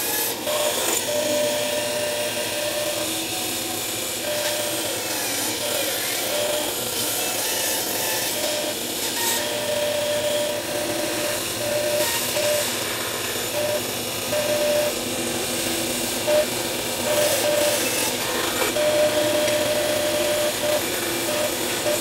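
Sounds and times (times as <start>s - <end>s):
electric saw cutting wood: 0.0s - 22.0s.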